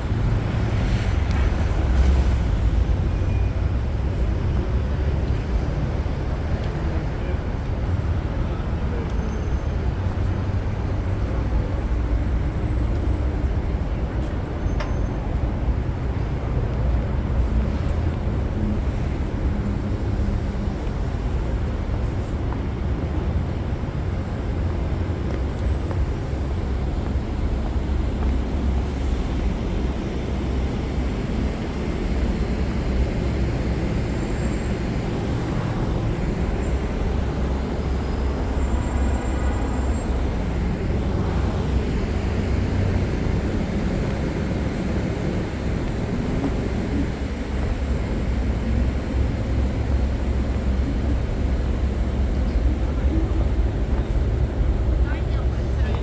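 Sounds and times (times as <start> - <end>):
cars and buses passing: 0.0 - 56.0.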